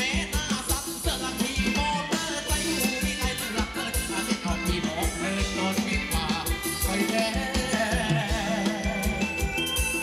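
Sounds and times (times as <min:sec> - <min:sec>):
driving drum beat: 0:00.0 - 0:10.0
live dance band playing: 0:00.0 - 0:10.0.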